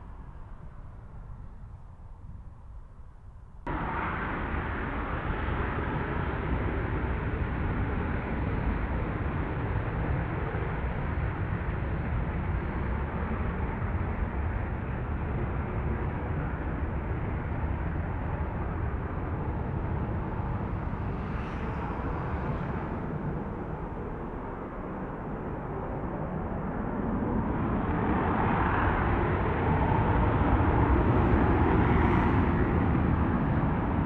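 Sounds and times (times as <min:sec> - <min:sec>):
jet engine roar: 0:03.7 - 0:34.0.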